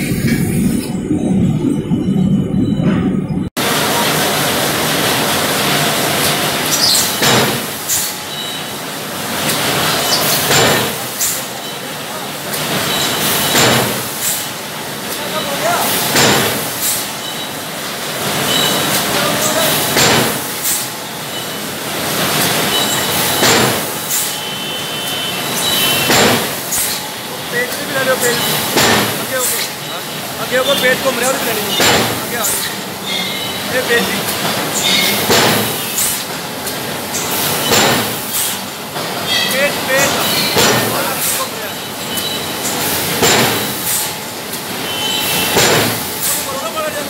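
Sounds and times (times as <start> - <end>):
short loud machine noises: 0.0 - 44.1
loud hiss of press: 3.6 - 47.0.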